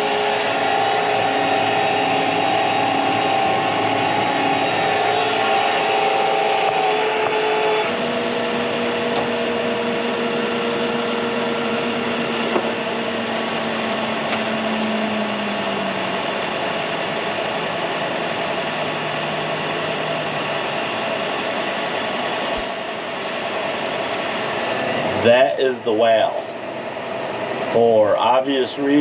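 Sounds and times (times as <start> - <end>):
combine harvester drone: 0.0 - 29.0
low machine tone: 0.0 - 29.0
machine hum: 0.0 - 29.0.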